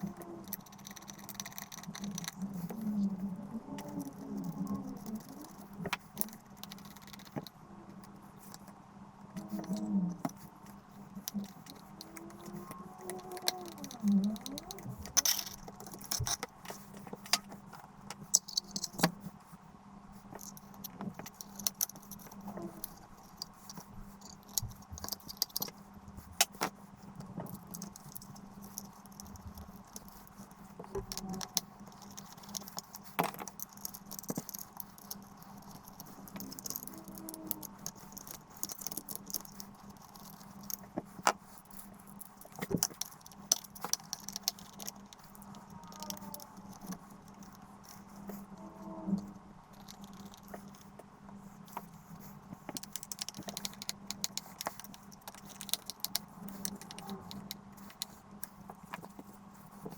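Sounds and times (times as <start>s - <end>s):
small metallic clicks and rattles: 0.0s - 19.3s, 20.2s - 59.9s
faint steady hum: 0.0s - 59.9s.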